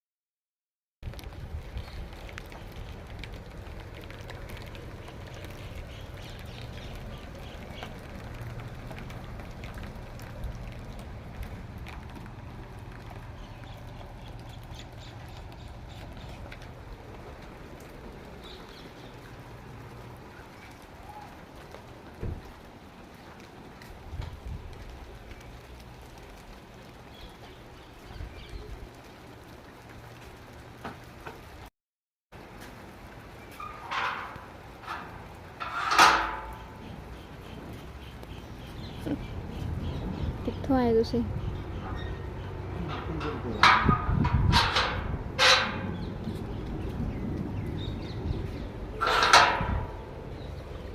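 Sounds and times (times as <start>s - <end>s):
rain drops ticking on hard surfaces: 1.0s - 31.7s, 32.3s - 50.9s.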